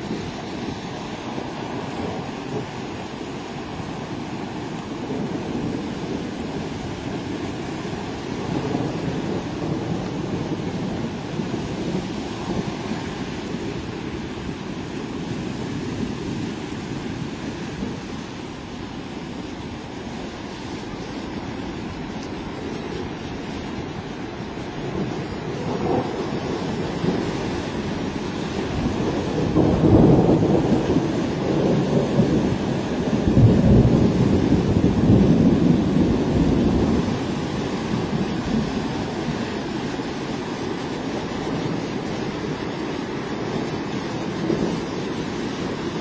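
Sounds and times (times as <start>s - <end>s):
floodwater rushing: 0.0s - 46.0s
wind buffeting microphone: 0.0s - 46.0s.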